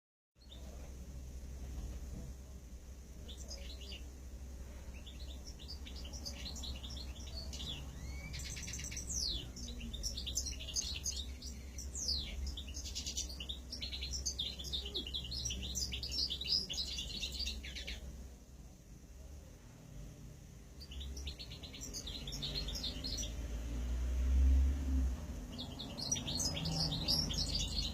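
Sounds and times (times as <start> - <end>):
cage birds chirping and twittering: 0.4 - 18.3, 20.5 - 27.9
steady low hum: 0.4 - 27.9.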